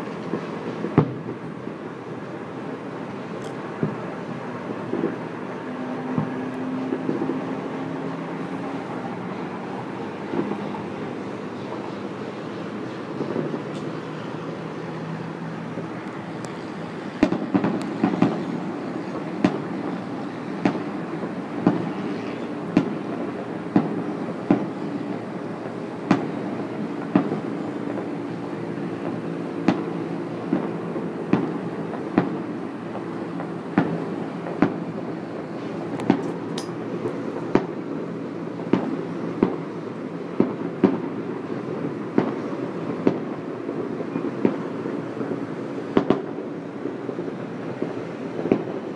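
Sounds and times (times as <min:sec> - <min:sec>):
fireworks bursting in sharp bangs: 0:00.0 - 0:48.9.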